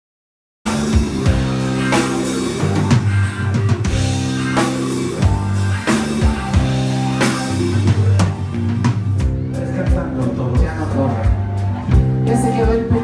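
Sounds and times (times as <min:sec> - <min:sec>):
rock band playing live: 0:00.7 - 0:13.0.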